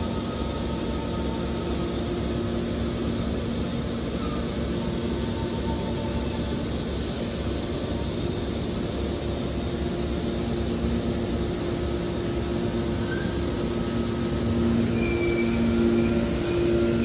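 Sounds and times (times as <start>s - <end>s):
baling press motor humming: 0.0s - 17.0s.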